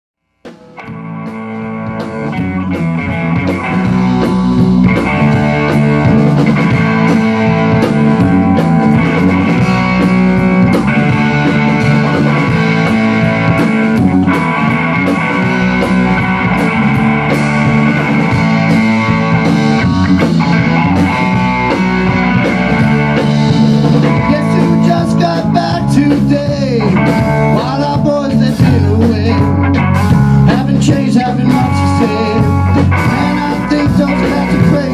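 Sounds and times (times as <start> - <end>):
bass guitar: 0.2 - 34.9
electric guitar: 0.2 - 34.9
drum kit: 0.3 - 34.9.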